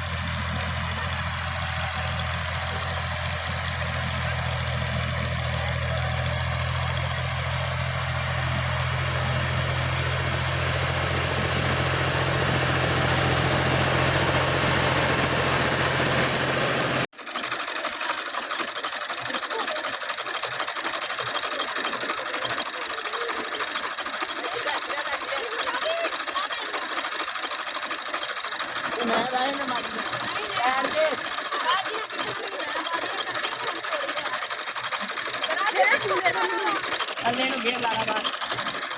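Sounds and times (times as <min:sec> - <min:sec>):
tractor engine humming: 0:00.0 - 0:38.9.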